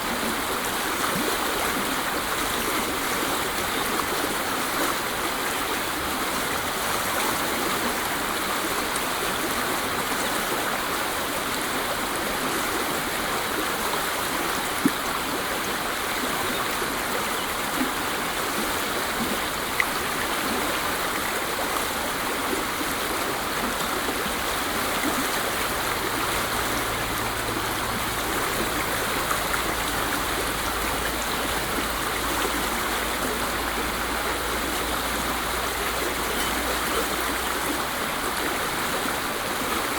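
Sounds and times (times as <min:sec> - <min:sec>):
water splashes: 0:00.0 - 0:39.9
waterfall rushing: 0:00.0 - 0:39.9.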